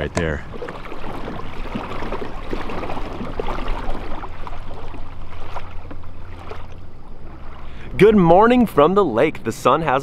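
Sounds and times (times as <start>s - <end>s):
steady low rumble: 0.0s - 10.0s
water lapping against kayak hull: 0.0s - 10.0s.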